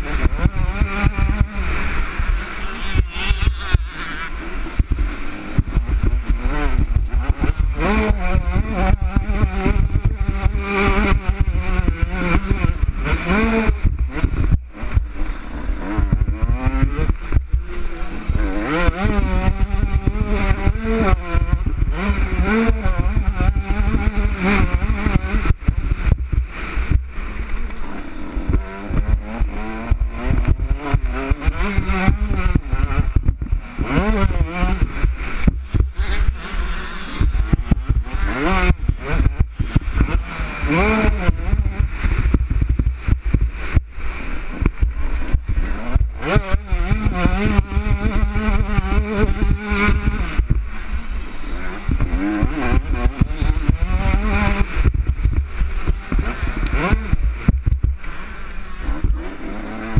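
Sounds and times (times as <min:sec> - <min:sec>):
motocross bike engine revving: 0:00.0 - 0:59.9
wind rumble on microphone: 0:00.0 - 0:59.9.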